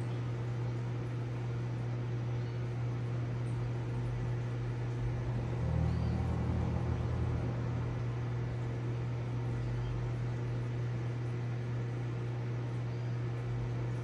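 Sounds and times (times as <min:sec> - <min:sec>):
aquarium pump hum: 0:00.0 - 0:14.0.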